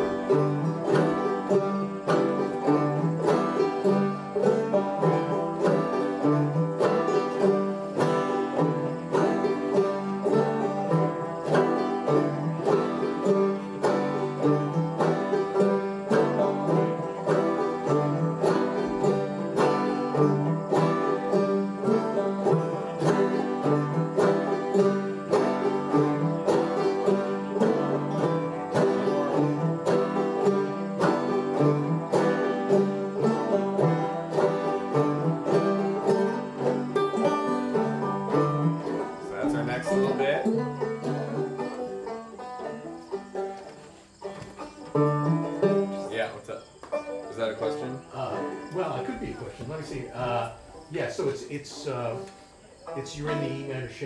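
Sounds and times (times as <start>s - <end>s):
banjo plucking and strumming: 0.0s - 54.0s.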